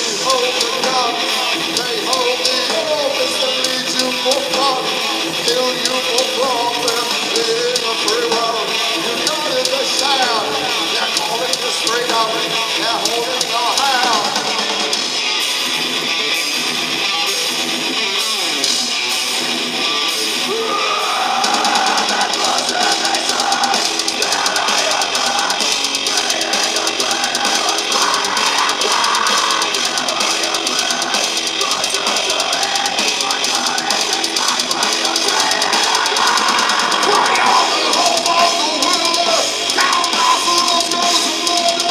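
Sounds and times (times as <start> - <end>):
live heavy rock band: 0.0 - 41.9.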